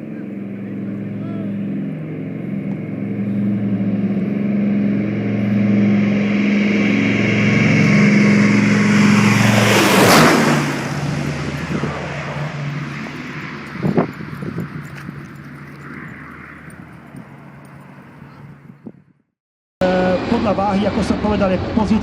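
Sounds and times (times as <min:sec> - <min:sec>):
low-flying aircraft engine drone: 0:00.0 - 0:19.2, 0:19.8 - 0:22.0.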